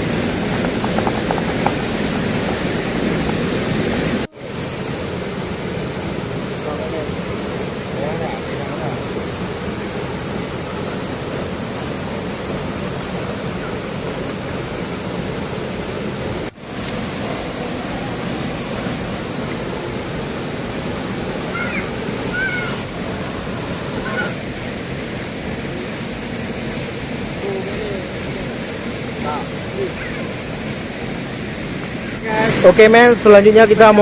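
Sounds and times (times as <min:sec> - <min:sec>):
river and waterfall rushing: 0:00.0 - 0:34.0.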